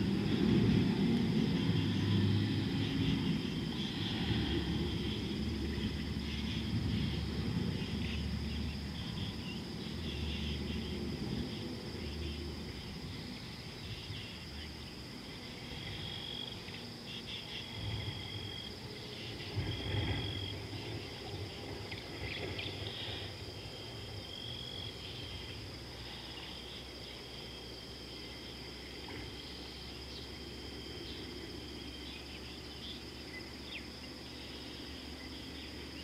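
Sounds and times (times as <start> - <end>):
insects chirping and trilling: 0.0 - 36.0.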